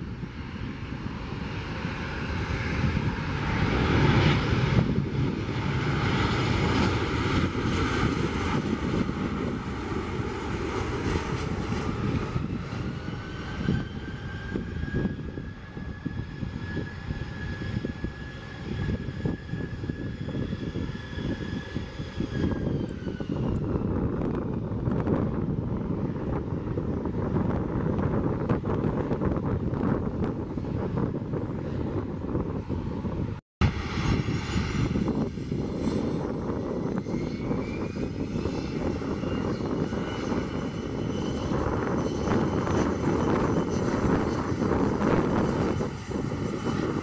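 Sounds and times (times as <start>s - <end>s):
high jet engine whine: 0.0s - 47.0s
jet airliner engines passing: 0.0s - 47.0s
wind rumble on microphone: 0.0s - 47.0s.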